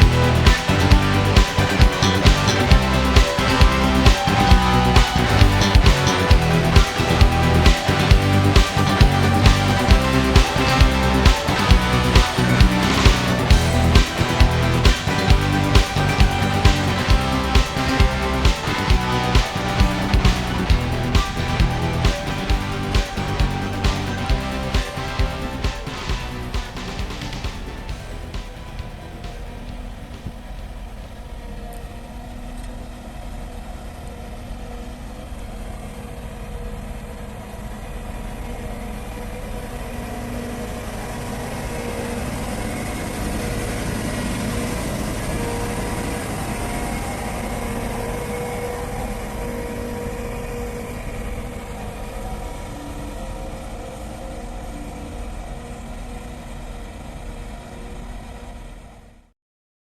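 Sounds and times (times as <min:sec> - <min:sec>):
off-road vehicle engine running: 0:00.0 - 0:58.9.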